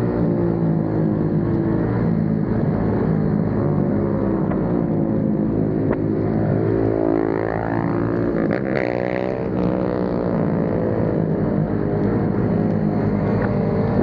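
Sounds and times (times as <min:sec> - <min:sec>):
motorcycle engine revving: 0:00.0 - 0:14.0
motorcycle engines running: 0:00.0 - 0:14.0.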